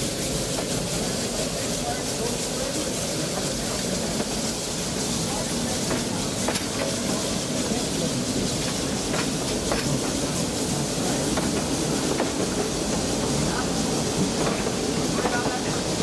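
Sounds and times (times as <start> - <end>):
train rumbling on the track: 0.0 - 16.0.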